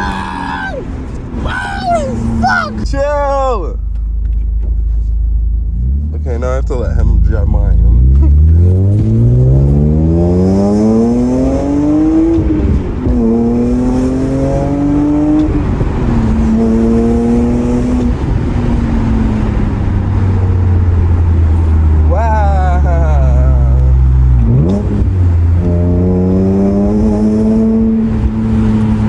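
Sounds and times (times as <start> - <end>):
car engine accelerating hard: 4.3 - 29.0.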